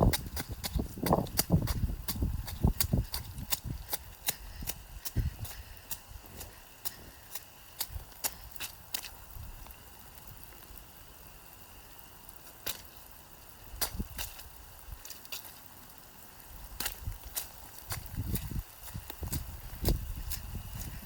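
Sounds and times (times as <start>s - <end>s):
faint steady hiss: 0.1s - 21.0s.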